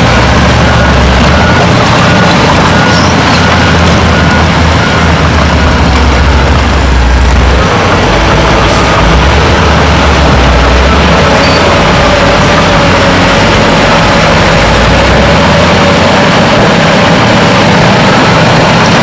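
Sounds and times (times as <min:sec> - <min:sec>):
diesel machinery engine rumbling: 0:00.0 - 0:19.0.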